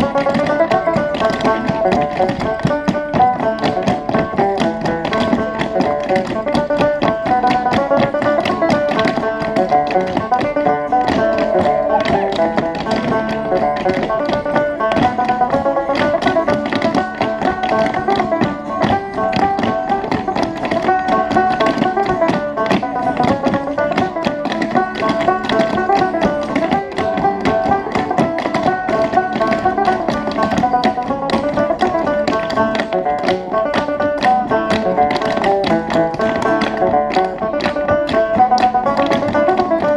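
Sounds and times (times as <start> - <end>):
clog shoes tapping on board: 0.0 - 39.9
plucked string instrument tune: 0.0 - 39.9.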